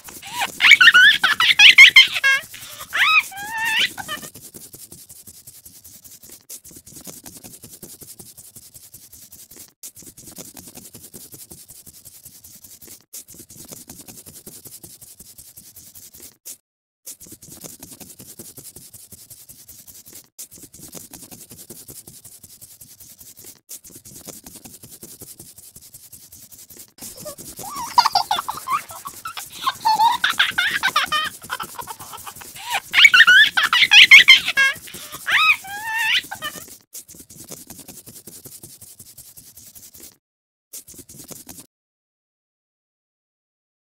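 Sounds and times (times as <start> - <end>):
scribbling on paper: 0.0 - 40.2, 40.8 - 41.7.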